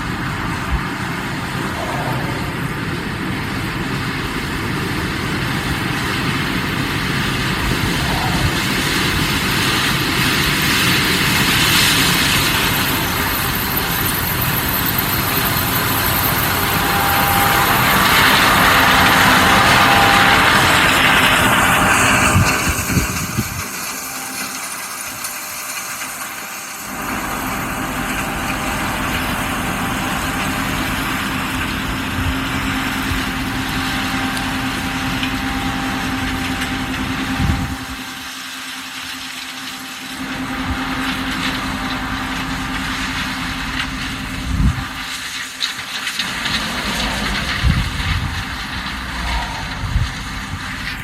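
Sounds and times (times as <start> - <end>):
highway traffic passing: 0.0 - 37.7, 45.4 - 51.0
steady engine hum: 0.0 - 51.0.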